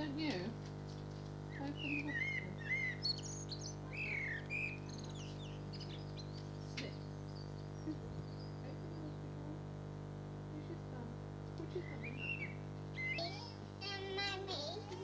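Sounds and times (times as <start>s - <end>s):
birds chirping and twittering: 0.0s - 9.4s, 11.7s - 15.0s
steady low hum: 0.0s - 15.0s.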